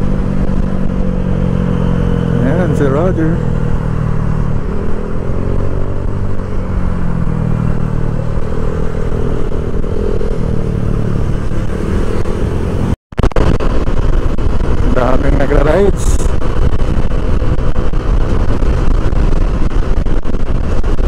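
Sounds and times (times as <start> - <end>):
scooter engine drone: 0.0 - 21.0
wind rumble on microphone: 0.0 - 21.0.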